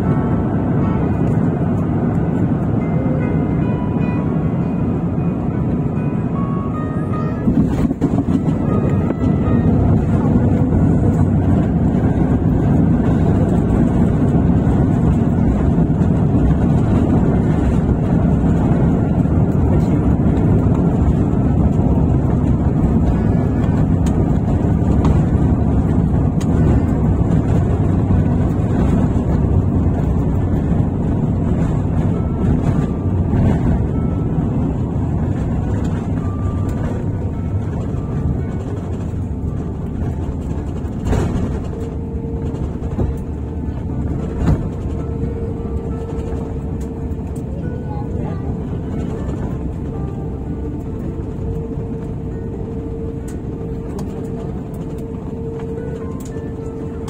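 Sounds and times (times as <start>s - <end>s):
aircraft cabin rumble on landing: 0.0s - 57.0s.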